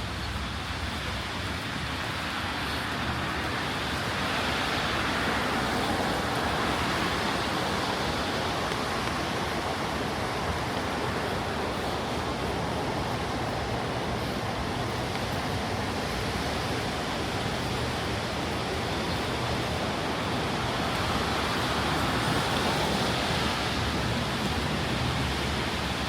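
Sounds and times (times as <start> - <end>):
rain on a street: 0.0 - 26.0
tyres hissing on wet road: 0.0 - 26.0.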